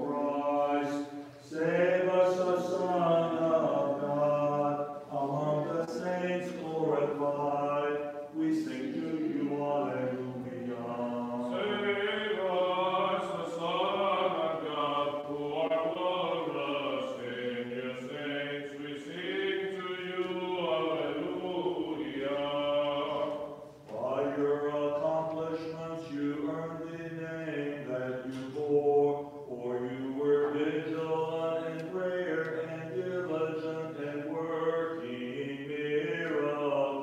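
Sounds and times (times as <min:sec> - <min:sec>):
unaccompanied chanted hymn: 0:00.0 - 0:37.0.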